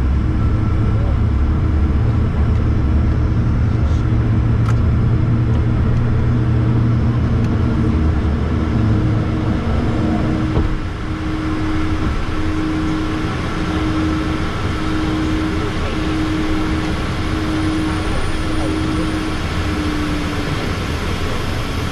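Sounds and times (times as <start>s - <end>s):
jet engines droning: 0.0s - 21.9s
runway roll rumble: 0.0s - 21.9s
steady cabin hum: 0.0s - 21.9s.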